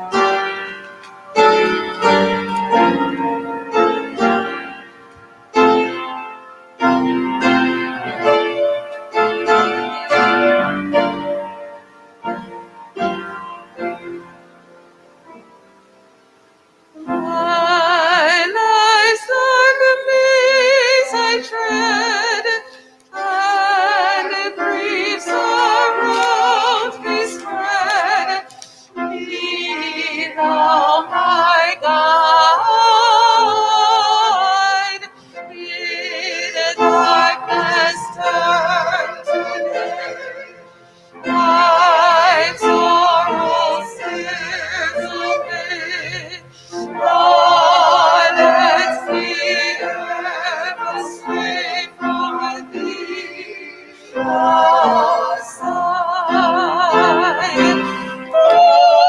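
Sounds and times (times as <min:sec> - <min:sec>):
choir singing: 0:00.0 - 0:04.9, 0:05.5 - 0:14.4, 0:17.0 - 0:59.0.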